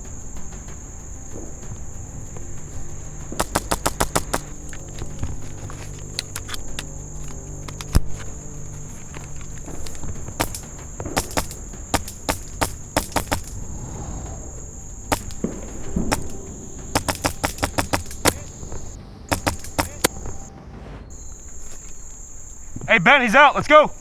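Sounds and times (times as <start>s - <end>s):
airsoft rifle shots: 0.0s - 20.5s
crickets chirring: 0.0s - 24.0s.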